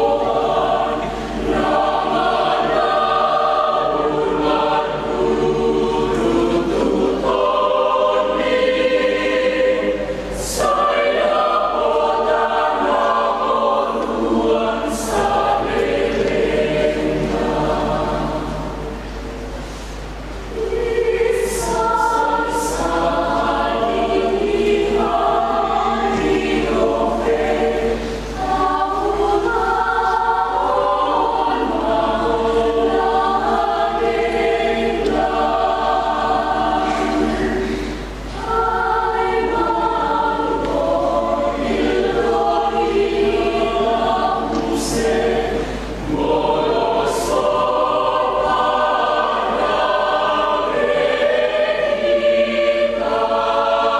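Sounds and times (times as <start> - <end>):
church choir singing: 0.0 - 53.9.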